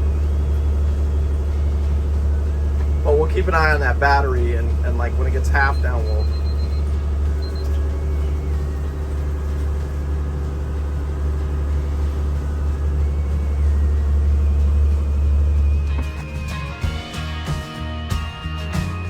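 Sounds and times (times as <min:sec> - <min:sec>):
boat diesel engine rumbling: 0:00.0 - 0:19.0.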